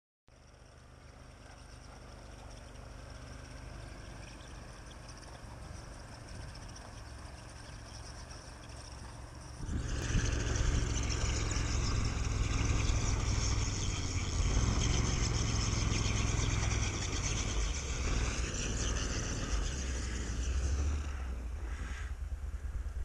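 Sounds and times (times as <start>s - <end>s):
tracked vehicle engine running: 0.3s - 23.0s.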